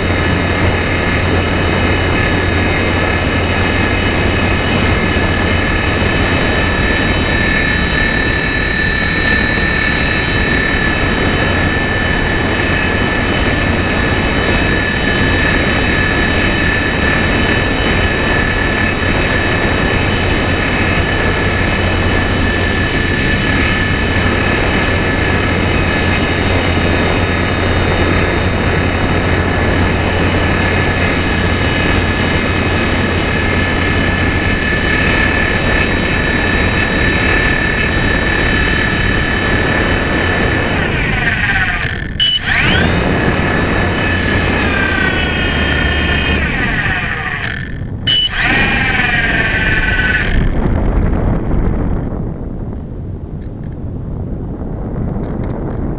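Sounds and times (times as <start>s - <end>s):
electric motor high whine: 0.0s - 51.6s
propeller and airflow rushing: 0.0s - 55.9s.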